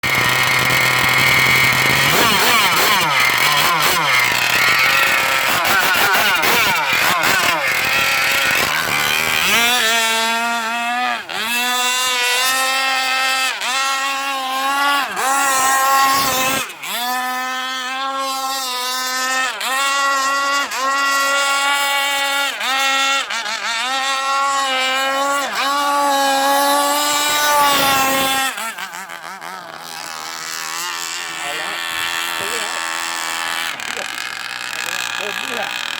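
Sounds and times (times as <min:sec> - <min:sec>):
model boat engine high revs: 0:00.0 - 0:35.9.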